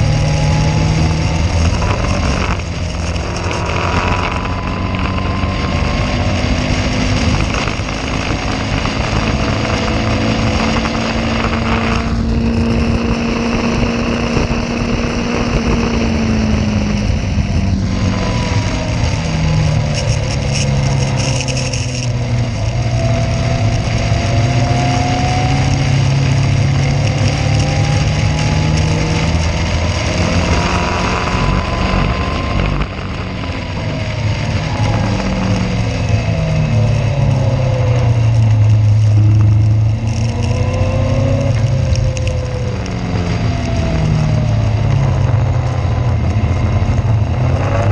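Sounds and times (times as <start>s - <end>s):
race car engine revving: 0.0s - 47.9s
steady rushing noise: 0.0s - 47.9s.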